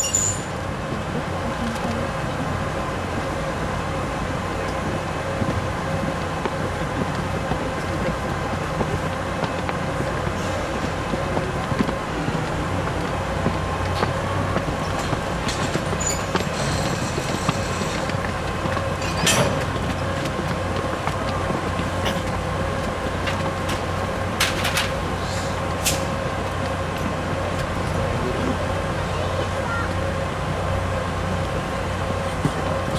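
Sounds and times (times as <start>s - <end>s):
diesel locomotive humming: 0.0s - 32.9s.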